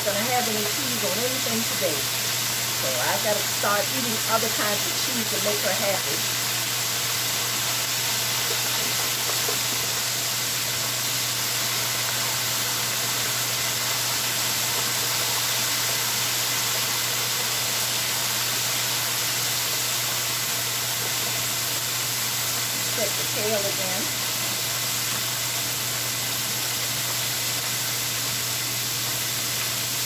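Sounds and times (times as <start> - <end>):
chicken sizzling in fryer: 0.0 - 30.0.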